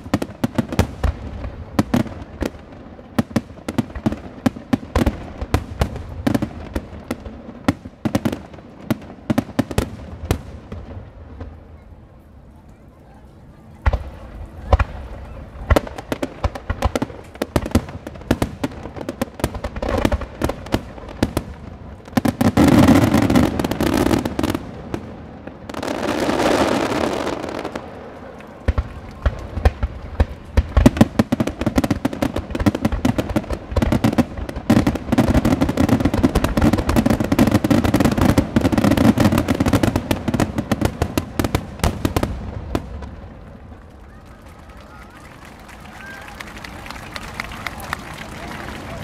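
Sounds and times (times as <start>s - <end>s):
fireworks bangs and crackling: 0.0s - 11.9s, 13.7s - 49.0s.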